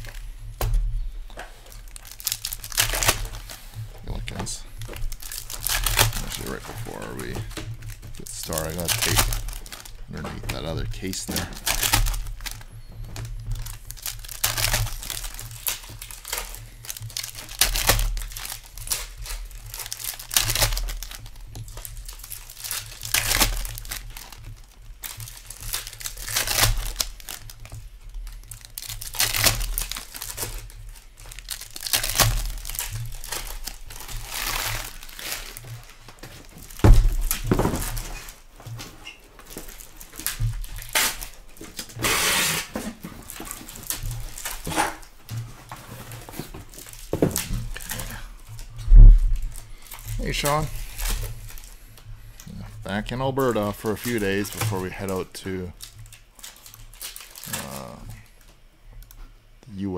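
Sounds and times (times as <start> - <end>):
foil wrappers tearing and crinkling: 0.0 - 59.2.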